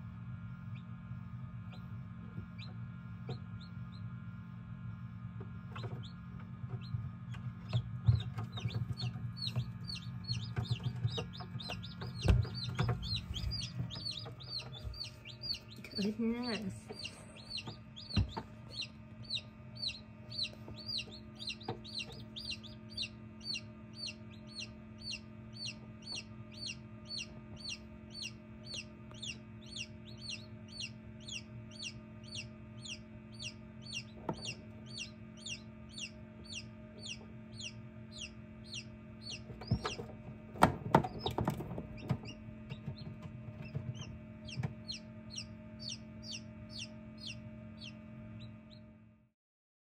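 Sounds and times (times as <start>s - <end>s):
incubator low hum: 0.0s - 49.3s
chicks peeping: 0.6s - 4.2s, 5.2s - 48.9s.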